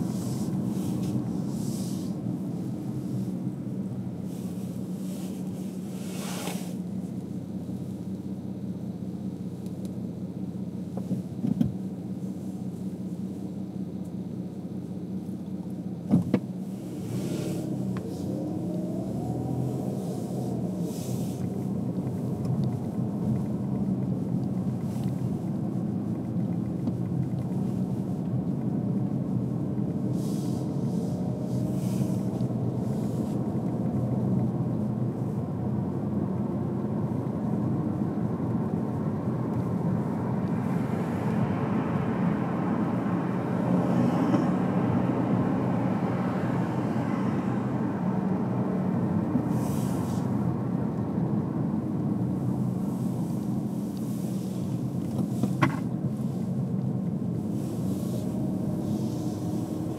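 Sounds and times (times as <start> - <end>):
car engine and tyres drone: 0.0 - 59.9.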